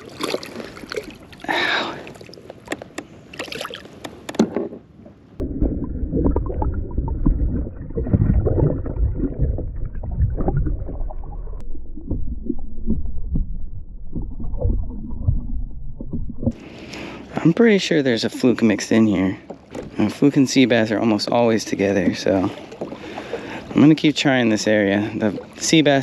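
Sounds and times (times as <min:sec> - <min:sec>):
water gurgling against kayak hull: 0:00.0 - 0:02.5, 0:05.4 - 0:26.0.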